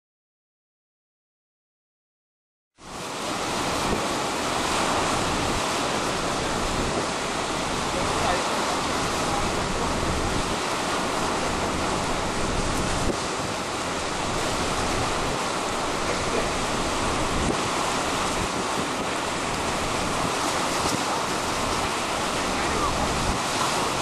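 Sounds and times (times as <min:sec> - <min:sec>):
strong wind blowing: 0:02.8 - 0:24.0
wind buffeting microphone: 0:02.9 - 0:24.0.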